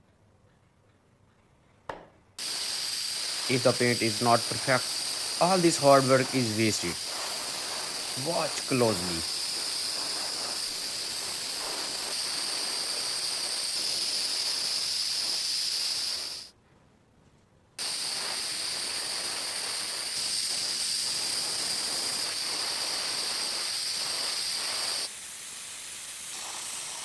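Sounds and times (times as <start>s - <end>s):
paint spray hissing: 2.4s - 16.5s, 17.8s - 27.0s.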